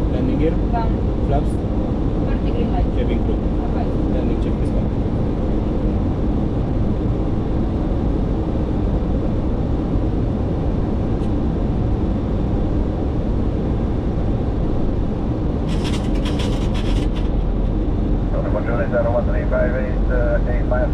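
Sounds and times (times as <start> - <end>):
airliner cockpit rumble: 0.0 - 20.9.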